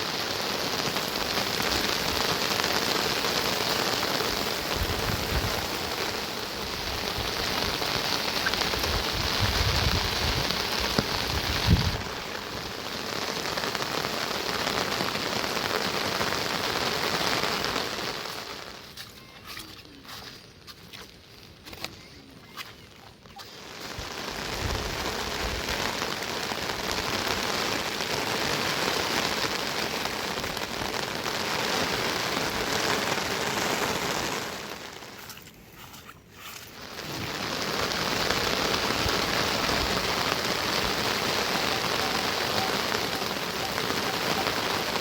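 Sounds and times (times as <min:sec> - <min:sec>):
heavy rain: 0:00.0 - 0:20.2, 0:20.8 - 0:35.3, 0:36.7 - 0:45.0.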